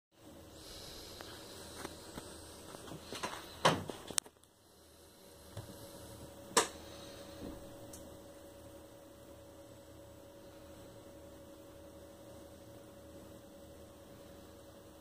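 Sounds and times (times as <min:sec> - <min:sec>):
pump humming: 0:00.2 - 0:15.0.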